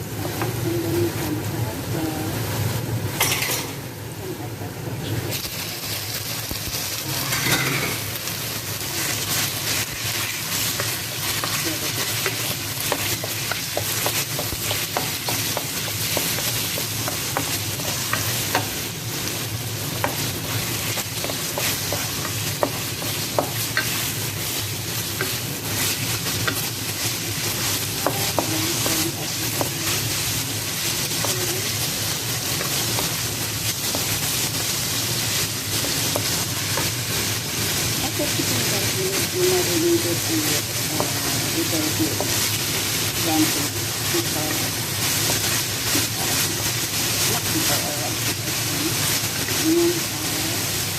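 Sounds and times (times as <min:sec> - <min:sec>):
food sizzling in oil: 0:00.0 - 0:50.9.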